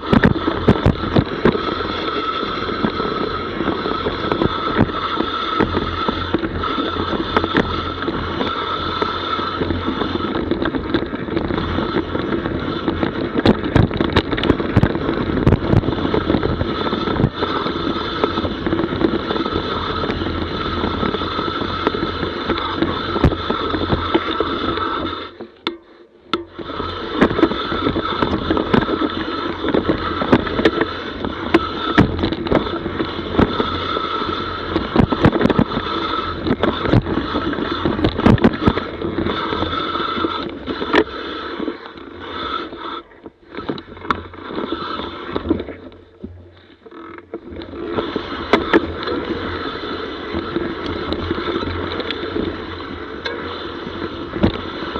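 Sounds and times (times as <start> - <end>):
bike knocks and rattles: 0.0 - 54.9
bike tyre and drivetrain noise: 0.0 - 54.9.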